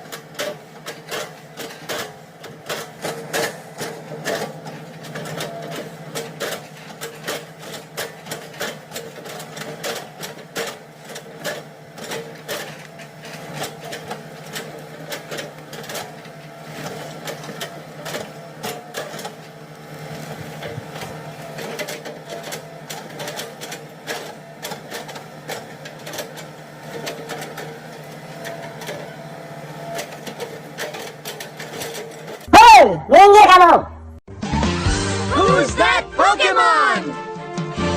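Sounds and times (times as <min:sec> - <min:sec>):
excavator engine running: 0:00.0 - 0:32.7.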